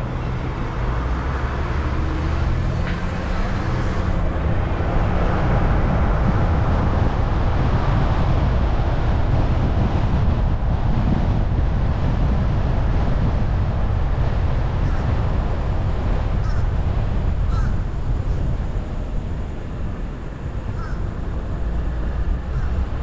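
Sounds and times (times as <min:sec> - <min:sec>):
car engine hum: 0:00.0 - 0:23.0
road and wind noise: 0:00.0 - 0:23.0.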